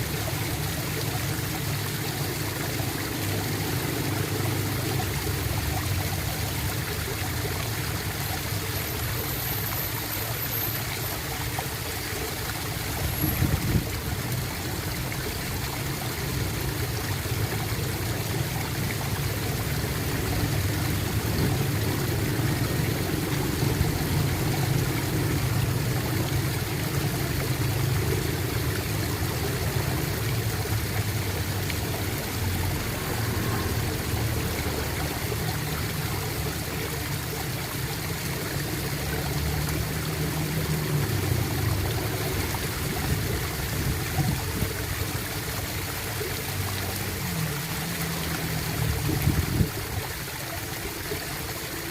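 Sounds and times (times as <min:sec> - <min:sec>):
water gurgling: 0:00.0 - 0:51.9.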